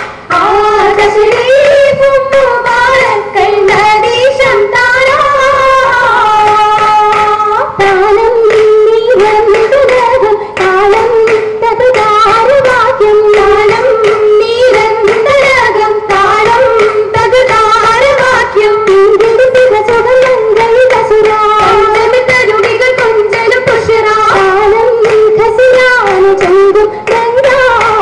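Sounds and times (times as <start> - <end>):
hand claps: 0.0 - 28.0
girls singing: 0.2 - 28.0.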